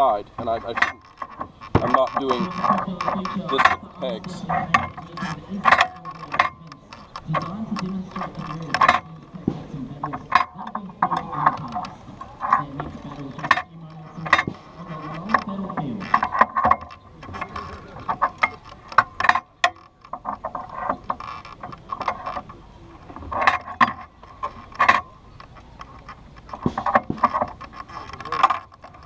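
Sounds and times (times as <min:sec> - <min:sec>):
winch ratchet clicking and knocking: 0:00.0 - 0:29.0.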